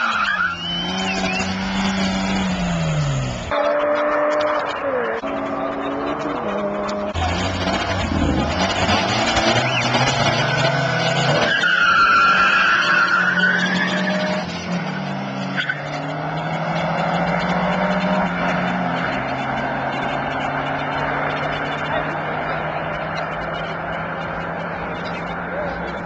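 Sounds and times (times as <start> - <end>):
tyre squeal: 0.0 - 22.0
car engine revving: 0.0 - 26.0.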